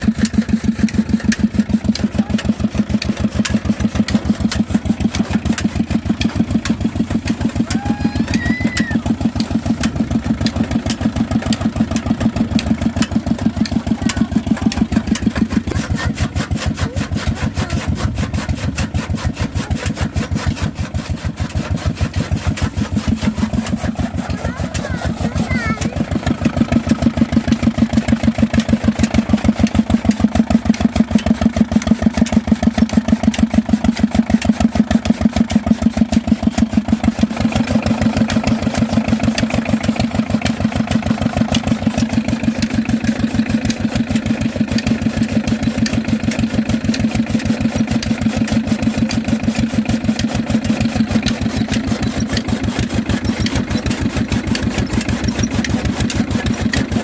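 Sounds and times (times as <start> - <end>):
engine running with rapid pulsing: 0.0 - 57.0.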